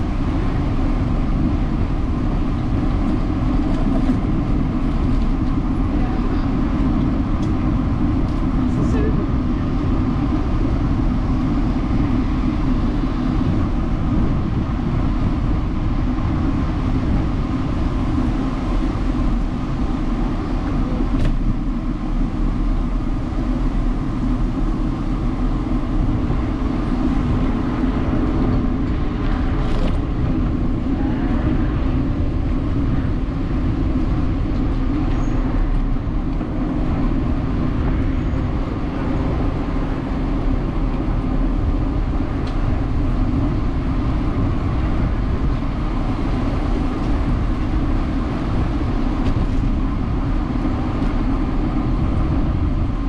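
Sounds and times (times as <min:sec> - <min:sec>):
loud low rumble: 0:00.0 - 0:53.0.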